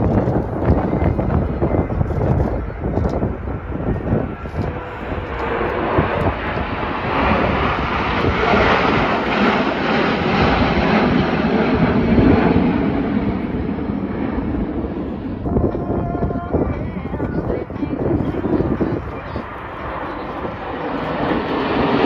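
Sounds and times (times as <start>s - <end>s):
jets flying past: 0.0s - 22.0s.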